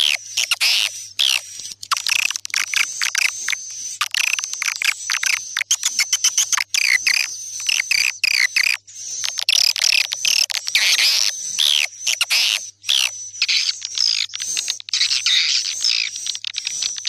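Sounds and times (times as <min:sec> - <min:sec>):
swiftlet chorus chirping and trilling: 0:00.0 - 0:17.0.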